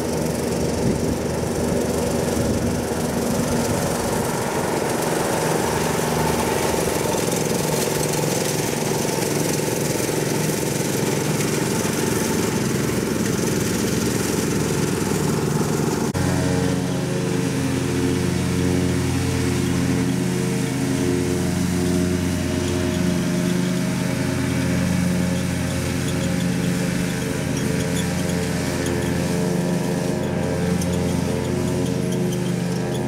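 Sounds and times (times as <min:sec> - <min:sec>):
riding lawn mower running: 0:00.0 - 0:33.0.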